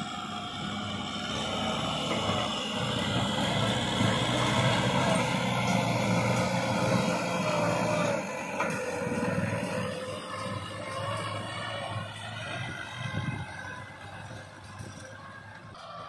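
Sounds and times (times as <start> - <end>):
rotary tiller through soil: 0.0 - 16.0
tractor diesel engine running: 0.0 - 16.0.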